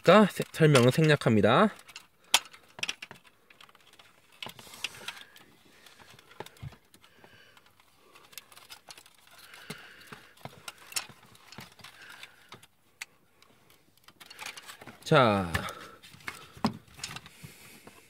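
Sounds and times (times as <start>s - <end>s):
plastic toy parts clicking: 0.0s - 17.3s.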